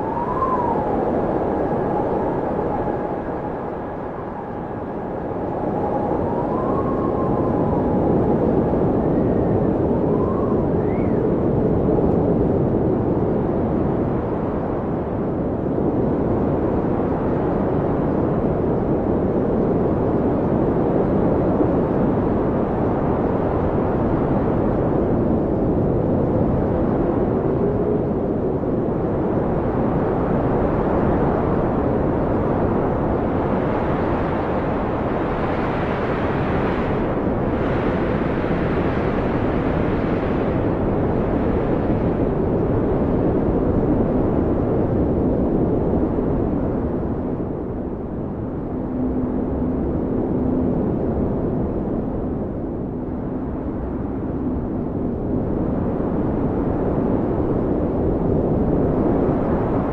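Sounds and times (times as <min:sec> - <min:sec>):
blizzard wind rushing: 0:00.0 - 0:59.9
wind whistling howls: 0:00.0 - 0:59.9.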